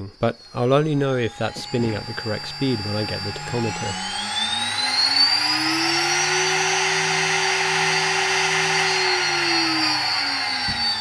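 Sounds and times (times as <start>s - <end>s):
router spindle whine: 0.0s - 11.0s.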